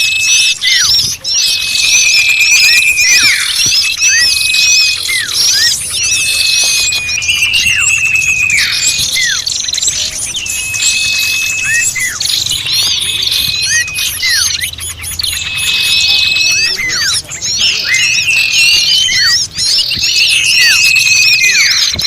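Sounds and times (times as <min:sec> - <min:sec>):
many small birds calling: 0:00.0 - 0:22.0.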